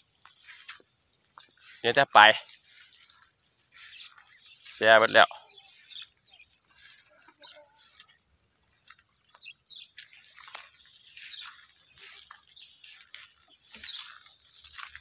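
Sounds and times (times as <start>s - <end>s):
crickets and insects chorus: 0.0s - 15.0s.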